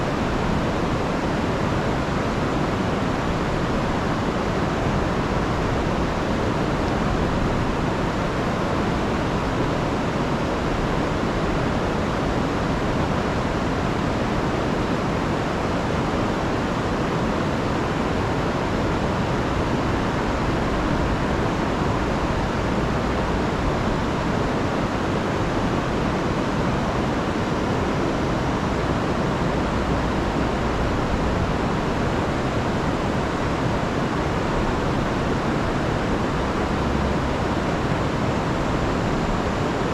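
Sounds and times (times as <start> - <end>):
river rushing water: 0.0 - 39.9.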